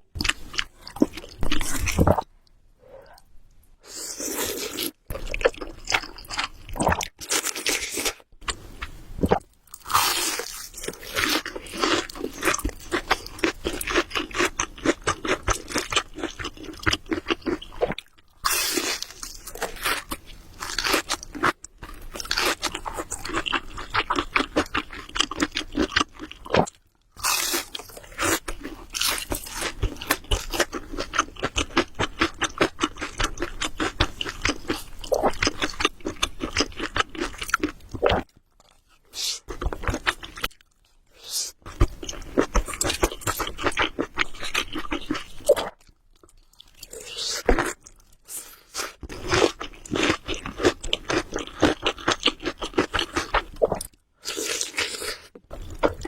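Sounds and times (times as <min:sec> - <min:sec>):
person chewing noodles: 0:00.2 - 0:56.0.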